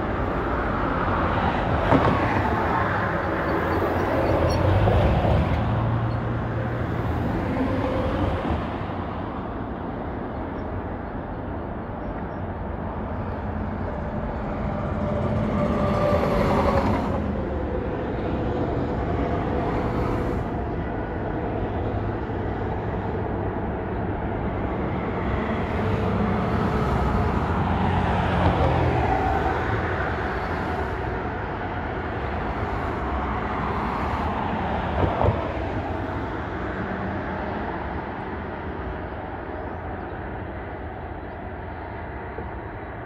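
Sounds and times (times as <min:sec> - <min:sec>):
highway traffic rushing: 0:00.0 - 0:43.0.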